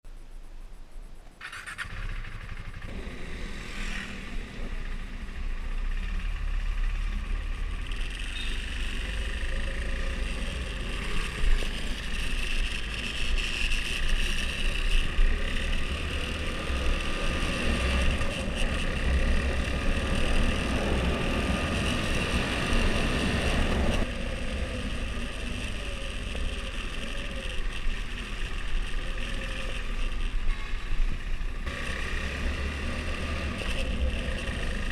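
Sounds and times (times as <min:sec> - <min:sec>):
motorcycle engine running: 0:01.5 - 0:34.9.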